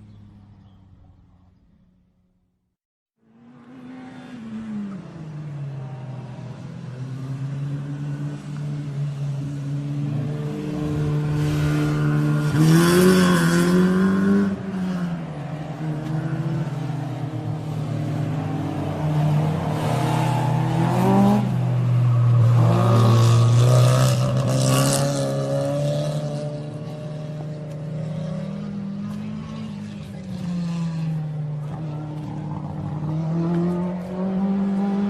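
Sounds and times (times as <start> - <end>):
car engine idling and revving: 3.2 - 35.0.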